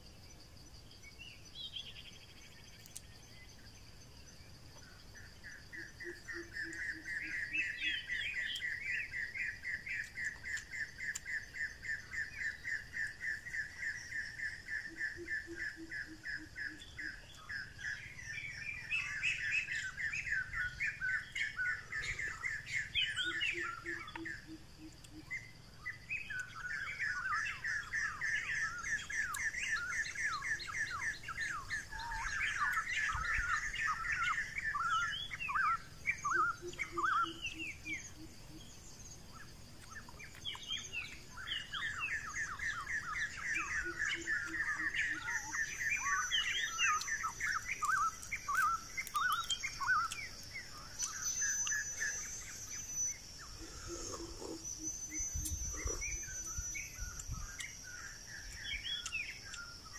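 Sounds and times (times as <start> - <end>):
birds chirping and calling: 4.7 - 59.9.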